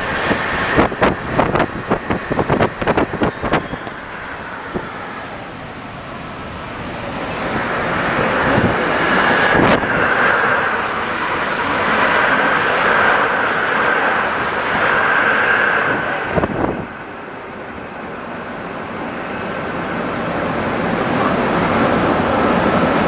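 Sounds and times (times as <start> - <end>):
metro train running: 0.0 - 23.0.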